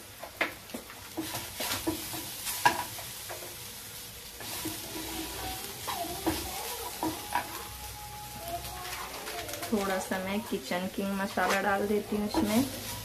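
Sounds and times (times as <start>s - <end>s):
vegetables sizzling in oil: 0.0s - 13.0s
wooden spatula scraping pan: 1.1s - 3.6s, 4.4s - 13.0s.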